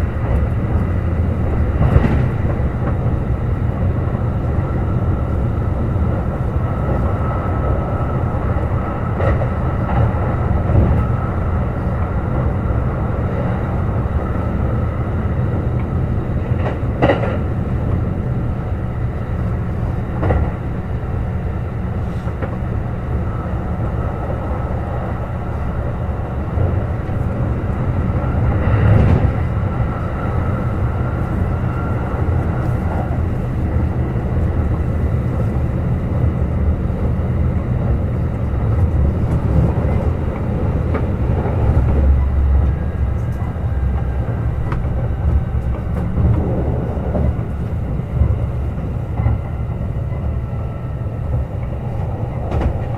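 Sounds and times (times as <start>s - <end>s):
train rumbling at speed: 0.0s - 52.9s.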